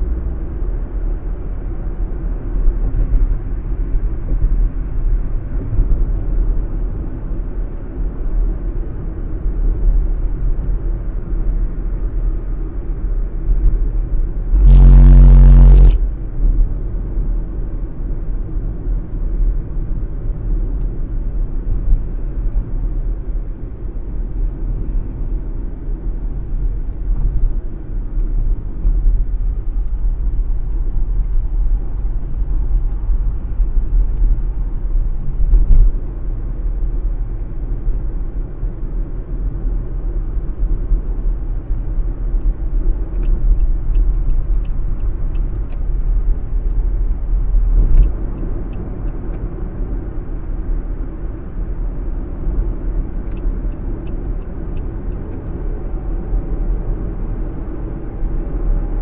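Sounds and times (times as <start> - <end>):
road and engine rumble in car: 0.0 - 59.0.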